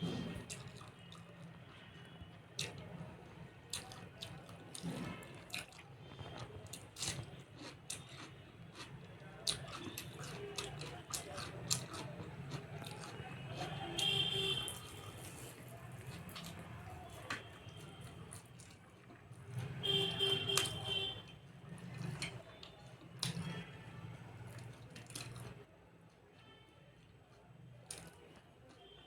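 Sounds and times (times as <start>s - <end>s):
chewing: 0.0s - 29.0s.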